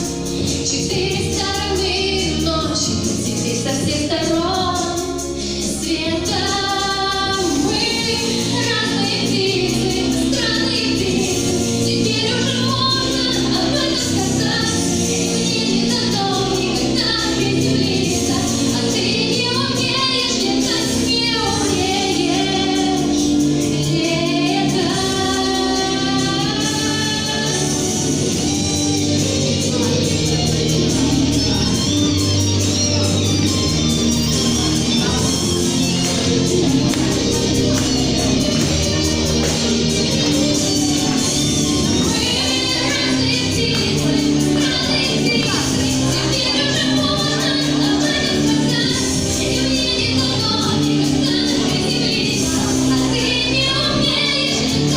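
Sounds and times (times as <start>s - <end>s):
instrumental accompaniment: 0.0s - 54.9s
woman singing: 0.4s - 28.0s, 34.8s - 54.9s.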